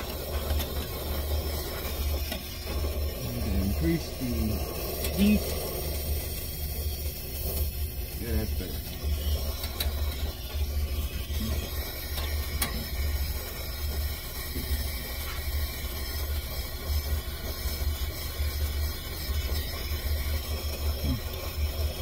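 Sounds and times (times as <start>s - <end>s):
torch flame rumbling and hissing: 0.0s - 22.0s.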